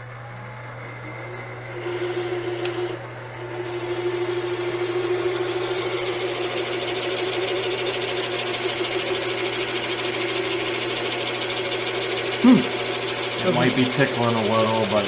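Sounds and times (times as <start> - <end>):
machine tool humming: 0.0 - 15.0.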